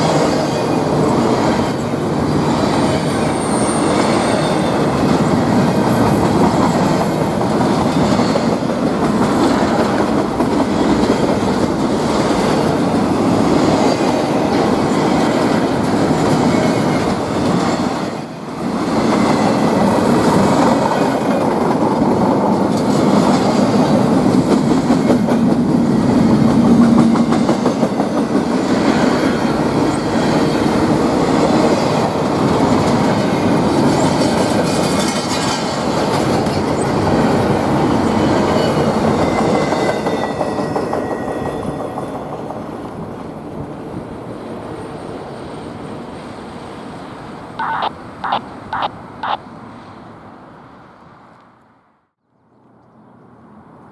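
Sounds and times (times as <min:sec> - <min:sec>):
train rumbling past: 0:00.0 - 0:51.8.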